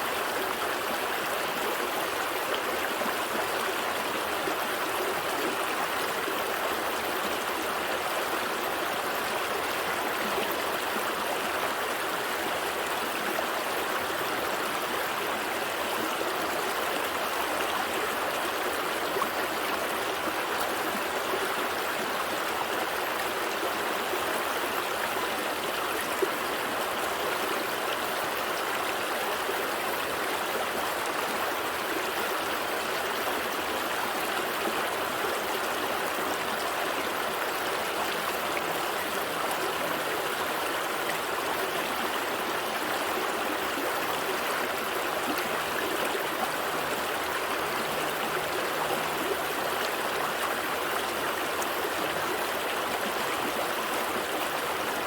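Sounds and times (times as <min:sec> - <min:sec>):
gentle stream flowing: 0:00.0 - 0:55.0.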